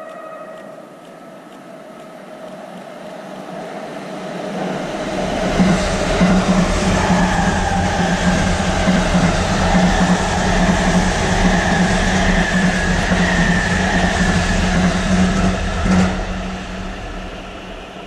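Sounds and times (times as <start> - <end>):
train wheels rumbling with whine: 0.0 - 18.0.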